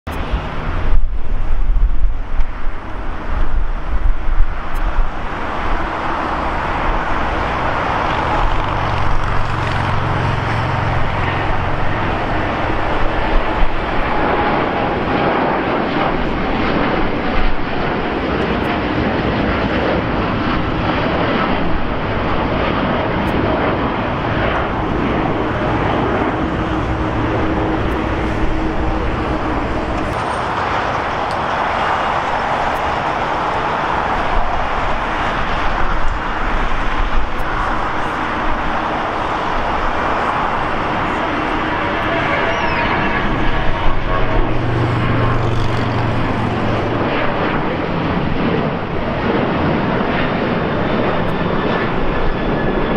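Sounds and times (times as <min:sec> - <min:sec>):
jet engine roar: 0:00.1 - 0:52.9
wind buffeting microphone: 0:00.1 - 0:52.9.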